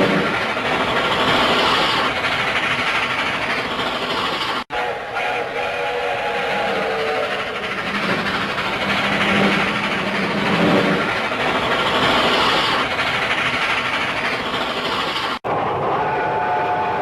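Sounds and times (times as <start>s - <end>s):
cartoon train running: 0.0s - 17.0s.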